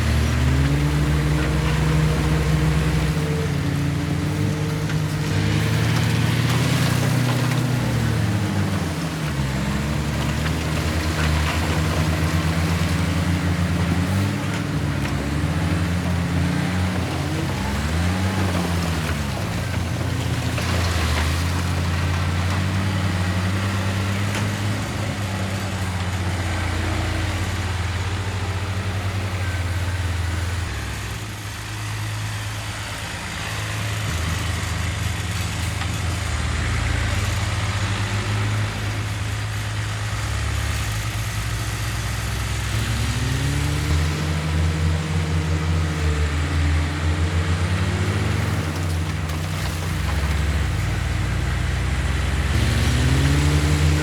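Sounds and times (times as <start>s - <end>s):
heavy diesel engines working: 0.0s - 54.0s.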